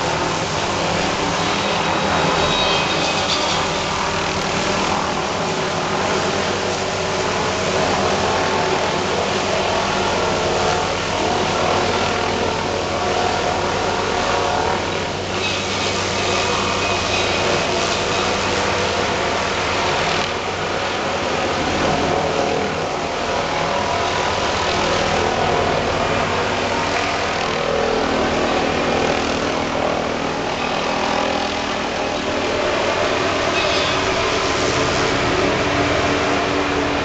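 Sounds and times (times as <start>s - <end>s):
helicopter rotor and engine drone: 0.0s - 37.0s.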